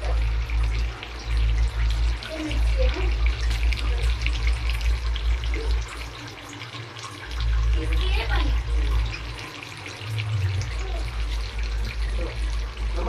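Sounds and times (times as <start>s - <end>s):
steady low hum: 0.0s - 13.0s
tap water running into sink: 0.0s - 13.0s.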